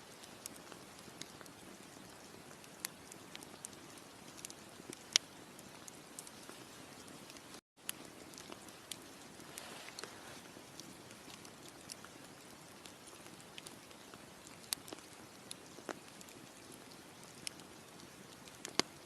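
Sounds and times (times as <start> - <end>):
campfire crackling: 0.1 - 19.0
fire pops and snaps: 0.2 - 19.0.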